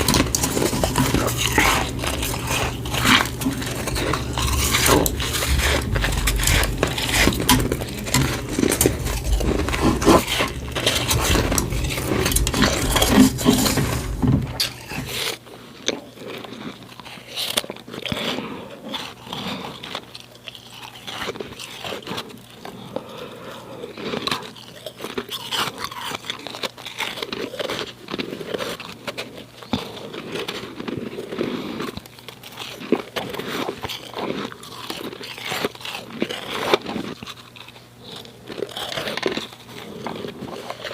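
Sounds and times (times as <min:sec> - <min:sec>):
chewing snow crunching: 0:00.0 - 0:40.9.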